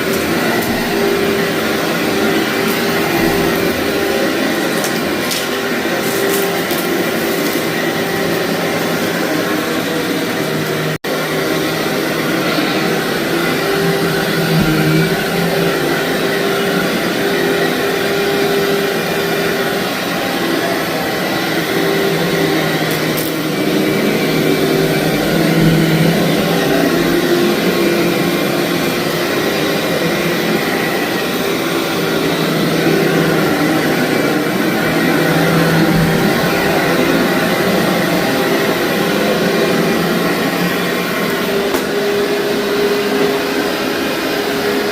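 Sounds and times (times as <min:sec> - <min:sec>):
vacuum cleaner on carpet: 0:00.0 - 0:44.9.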